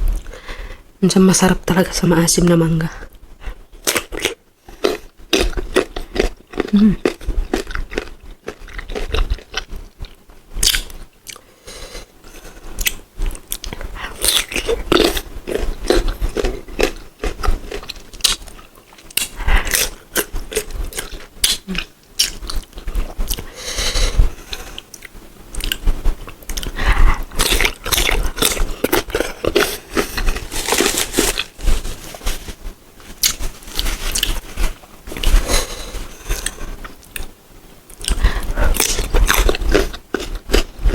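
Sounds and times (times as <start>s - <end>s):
crunching and chewing fruit: 3.1s - 40.9s.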